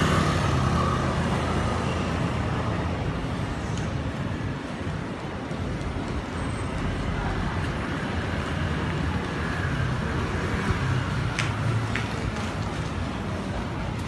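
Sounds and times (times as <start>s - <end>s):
street noise: 0.0s - 14.0s
traffic rumble: 0.0s - 14.0s.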